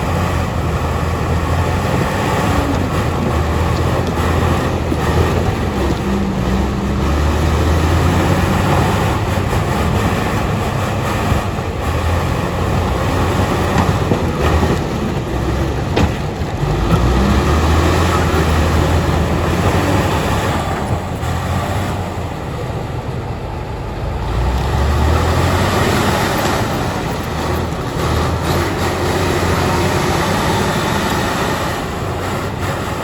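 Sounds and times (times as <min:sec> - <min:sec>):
bulldozer diesel engine rumbling: 0:00.0 - 0:33.0.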